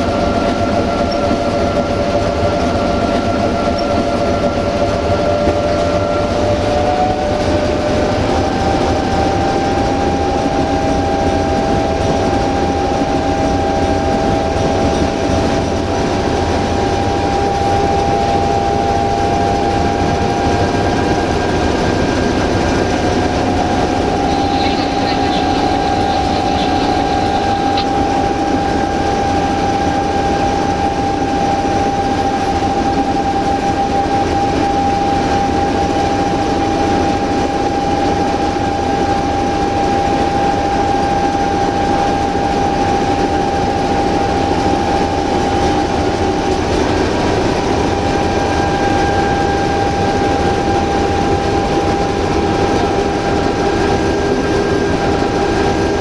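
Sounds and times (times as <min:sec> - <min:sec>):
constant whine: 0:00.0 - 0:56.0
locomotive engine running: 0:00.0 - 0:56.0.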